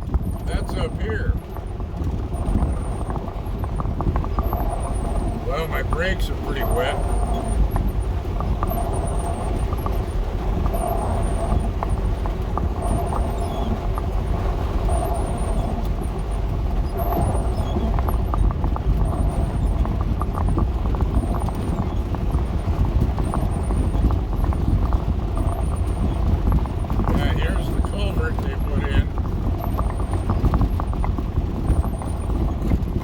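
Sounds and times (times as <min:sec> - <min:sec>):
van engine and road rumble: 0:00.0 - 0:33.0.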